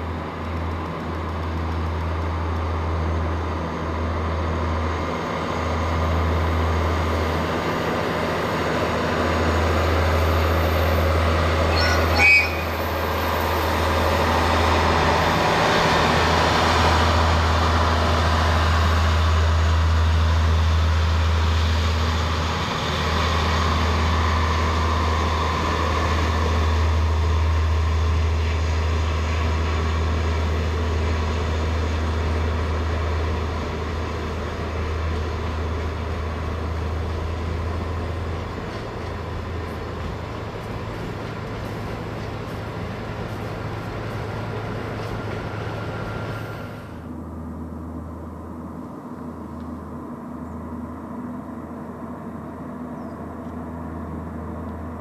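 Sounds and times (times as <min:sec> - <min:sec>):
diesel engine drone: 0:00.0 - 0:55.0
train rumbling: 0:00.0 - 0:55.0.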